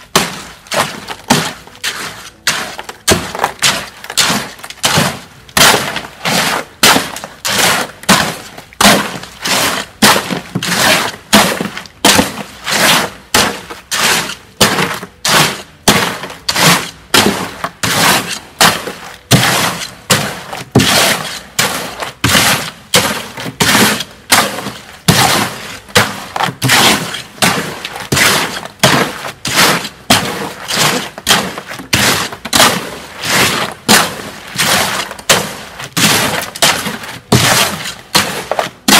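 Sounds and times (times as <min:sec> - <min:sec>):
hoe scraping concrete in wheelbarrow: 0:00.0 - 0:38.9.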